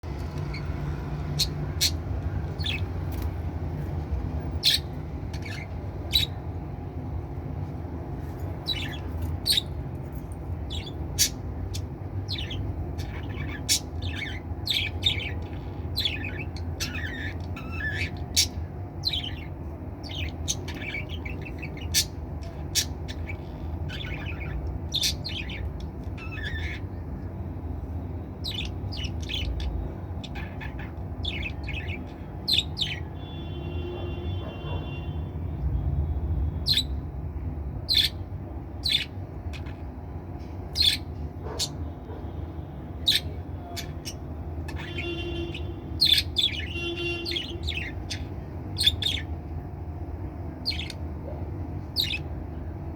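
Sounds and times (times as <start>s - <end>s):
steady low hum: 0.0s - 52.9s
budgerigars chirping and squawking: 0.2s - 27.3s, 28.2s - 35.1s, 36.6s - 37.0s, 37.8s - 52.9s.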